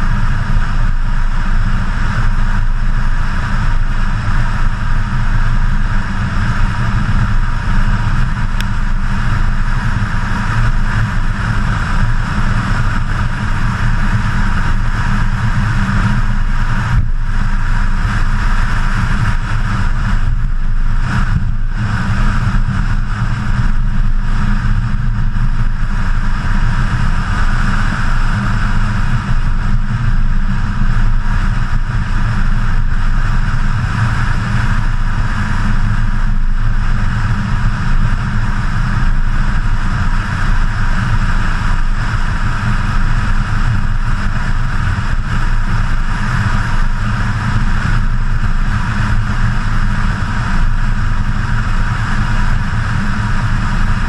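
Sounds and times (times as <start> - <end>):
car engine drone: 0.0 - 54.0
wind and road rush: 0.0 - 54.0.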